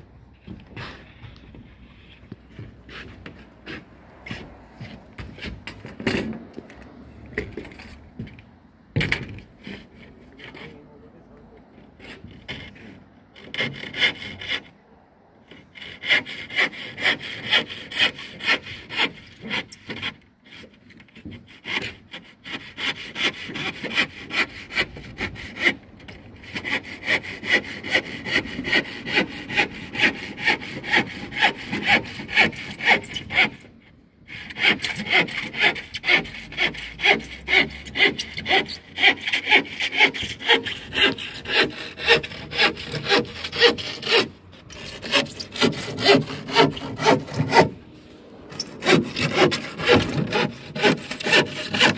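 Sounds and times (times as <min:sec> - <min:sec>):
handsaw cutting plywood: 0:02.6 - 0:06.4, 0:12.0 - 0:14.7, 0:15.5 - 0:51.9.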